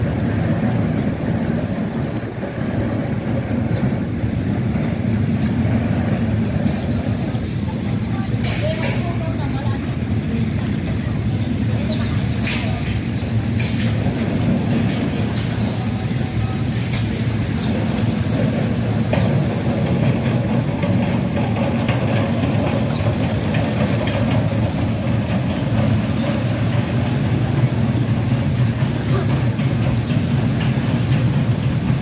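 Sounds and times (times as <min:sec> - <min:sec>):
low rumble of vehicle noise: 0:00.0 - 0:32.0.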